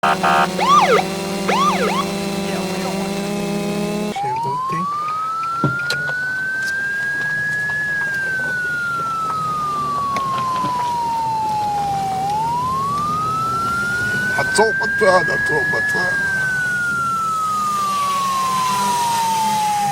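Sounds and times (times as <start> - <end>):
police siren wailing: 0.0 - 7.6, 8.5 - 19.9.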